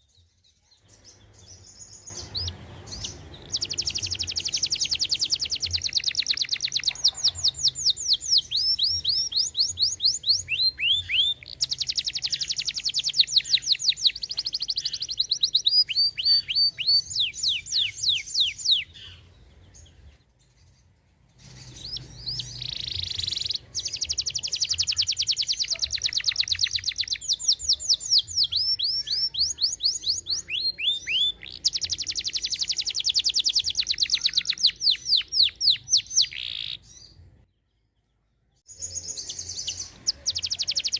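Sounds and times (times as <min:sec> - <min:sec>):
canary singing trills: 0:00.0 - 0:37.6, 0:38.6 - 0:40.9.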